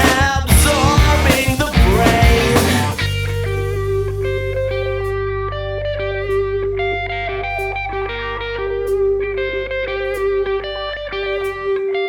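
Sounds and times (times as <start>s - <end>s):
electric guitar picked notes: 0.0s - 12.0s.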